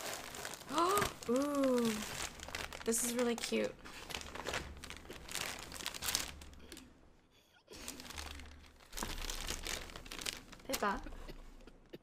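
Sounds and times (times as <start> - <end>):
plastic bags crinkling: 0.0 - 6.8, 7.8 - 11.1.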